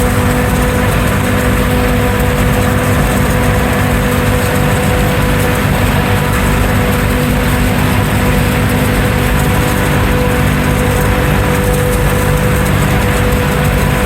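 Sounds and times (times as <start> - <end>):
farm machinery engines humming: 0.0 - 14.0.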